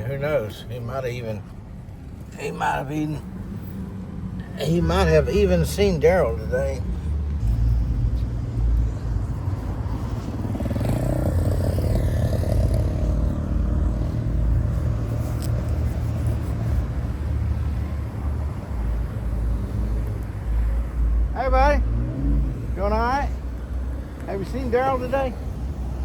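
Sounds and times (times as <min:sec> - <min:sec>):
car engine rumble: 0:00.0 - 0:26.0
road noise: 0:00.0 - 0:26.0.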